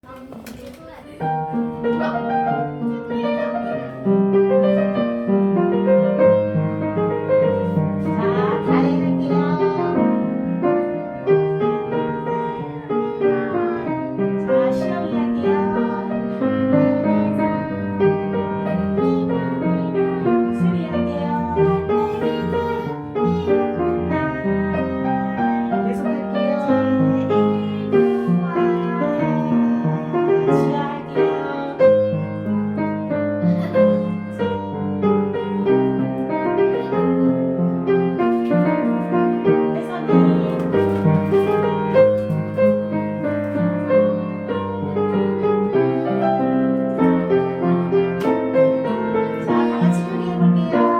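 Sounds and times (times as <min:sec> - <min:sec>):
children singing faintly: 0:00.0 - 0:50.9
piano accompaniment: 0:00.0 - 0:50.9.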